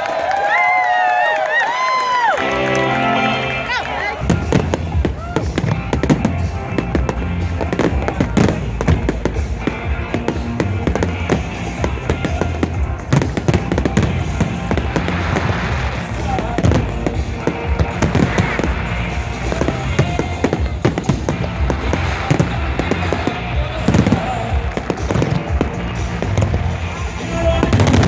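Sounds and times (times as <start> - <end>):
music over loudspeakers: 2.3 - 28.0
fireworks bangs and crackles: 3.7 - 28.0.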